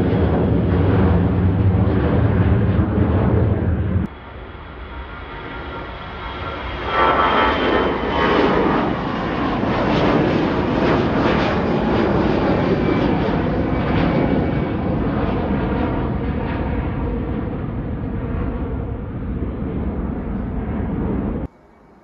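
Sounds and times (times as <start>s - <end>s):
airliner engines roaring at takeoff: 0.0s - 22.0s.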